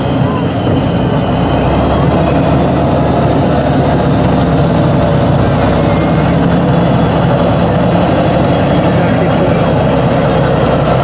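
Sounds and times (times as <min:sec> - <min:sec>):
truck engine running under load: 0:00.0 - 0:11.0.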